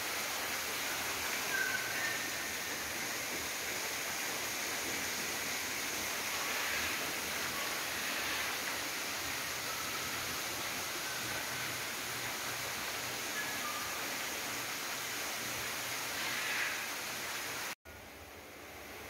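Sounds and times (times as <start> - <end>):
waterfall rushing: 0.0 - 17.8.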